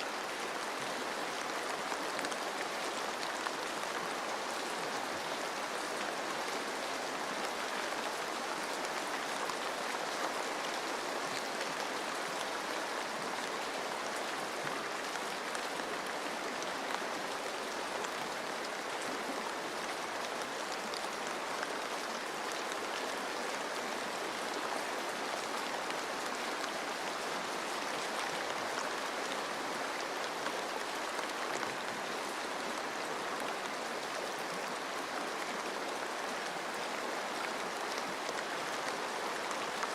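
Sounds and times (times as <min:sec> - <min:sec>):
rain pattering on leaves: 0:00.0 - 0:39.9
stream flowing: 0:00.0 - 0:39.9.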